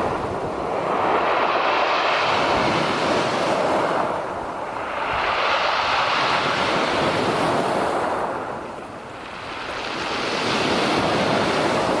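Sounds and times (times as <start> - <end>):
waves washing in: 0.0 - 12.0
wind noise on microphone: 0.0 - 12.0.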